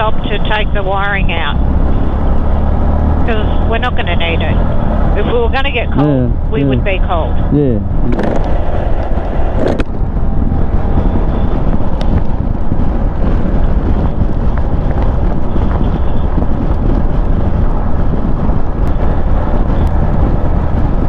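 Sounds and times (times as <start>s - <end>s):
vehicle and road noise: 0.0s - 21.0s
wind buffeting microphone: 0.0s - 21.0s.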